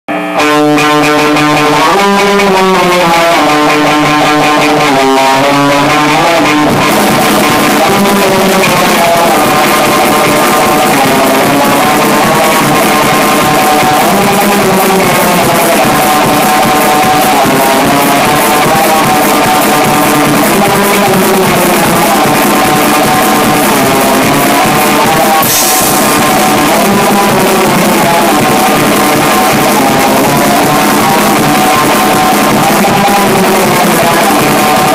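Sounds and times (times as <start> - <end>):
electric guitar sliding notes: 0.0 - 34.9
drums and cymbals: 0.8 - 34.9.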